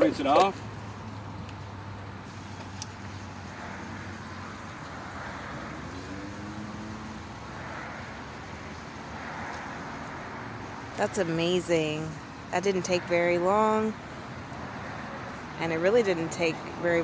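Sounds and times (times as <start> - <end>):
low motor vehicle hum: 0.0 - 17.0
water rinsing hiss: 2.2 - 17.0.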